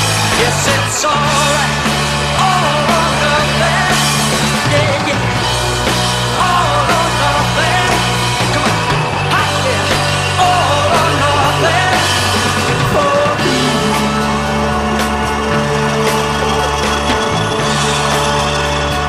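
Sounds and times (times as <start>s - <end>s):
rock music with vocals: 0.0s - 19.0s.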